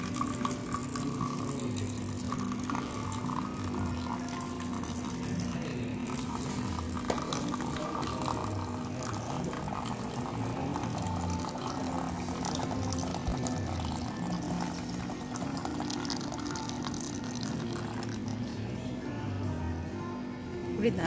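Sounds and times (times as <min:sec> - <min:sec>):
water pouring into a glass mug: 0:00.0 - 0:18.6.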